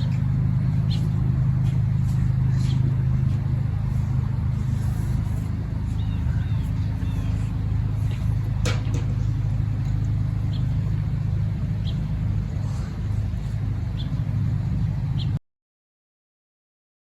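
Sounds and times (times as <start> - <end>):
low mechanical rumble: 0.0 - 15.4.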